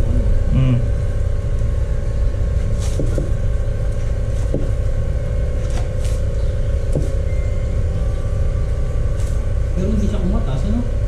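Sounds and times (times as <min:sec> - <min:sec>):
low mechanical rumble with hum: 0:00.0 - 0:11.0.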